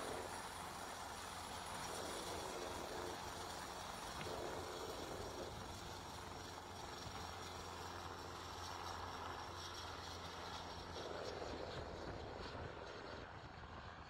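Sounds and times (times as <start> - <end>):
helicopter engine and rotor noise: 0.0 - 14.0.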